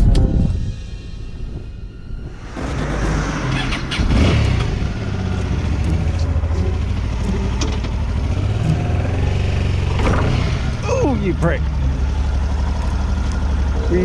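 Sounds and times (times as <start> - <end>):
motorcycle engine running: 2.5 - 14.0.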